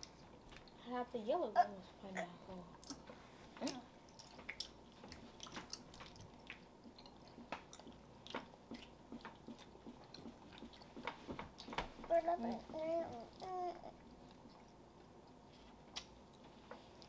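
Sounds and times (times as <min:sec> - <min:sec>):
children chewing: 0:00.0 - 0:00.8, 0:02.1 - 0:17.0.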